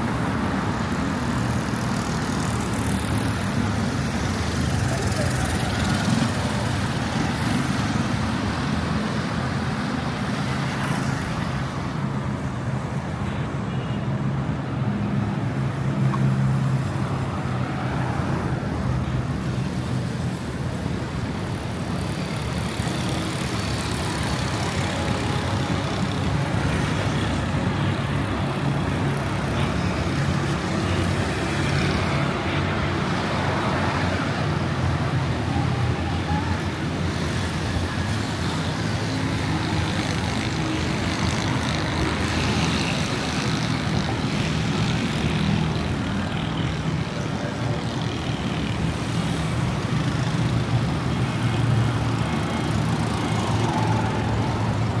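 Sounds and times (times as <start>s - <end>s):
cars passing: 0.0s - 13.6s, 14.3s - 55.0s.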